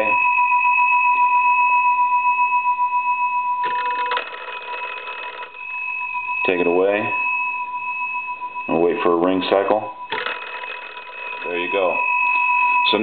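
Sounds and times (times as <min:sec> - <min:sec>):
steady high tone: 0:00.0 - 0:13.0
telephone bell ringing: 0:00.0 - 0:13.0.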